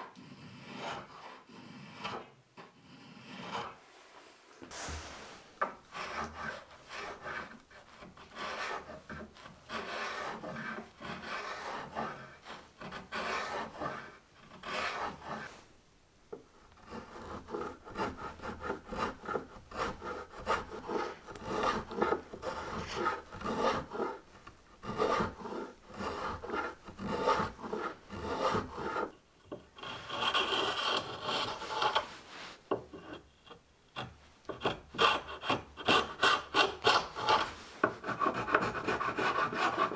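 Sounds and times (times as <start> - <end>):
spokeshave scraping wood: 0.2 - 15.7, 16.7 - 33.2, 34.0 - 39.9.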